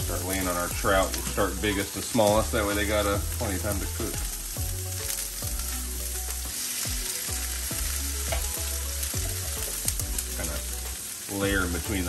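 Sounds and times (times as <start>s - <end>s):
fish and onions sizzling on griddle: 0.0s - 12.0s.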